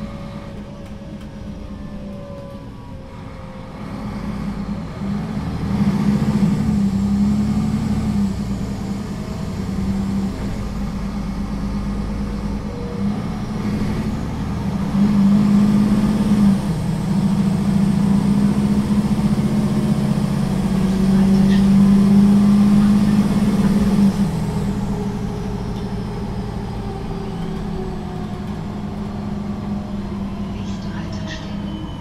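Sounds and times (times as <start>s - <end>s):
bus engine accelerating: 0.0s - 32.0s.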